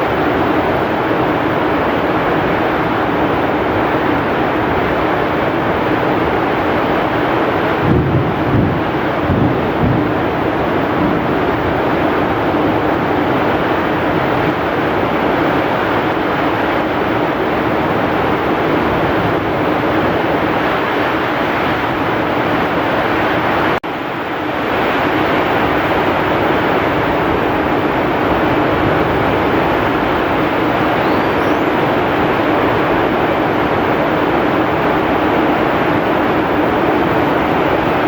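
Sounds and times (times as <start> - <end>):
heavy rain: 0.0 - 38.0
strong wind: 0.0 - 38.0.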